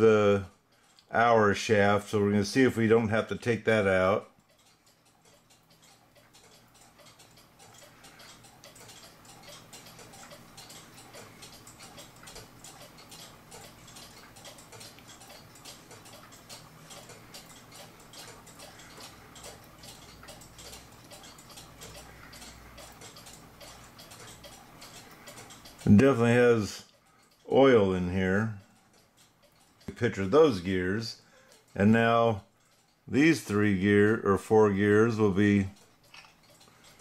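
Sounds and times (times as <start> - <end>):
mechanical clock ticking: 0.0 - 37.0.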